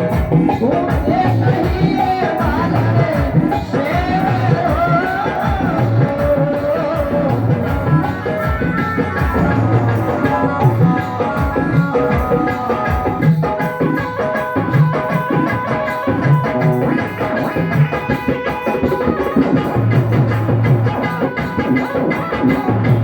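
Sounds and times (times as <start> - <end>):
hand drum beat: 0.0 - 23.0.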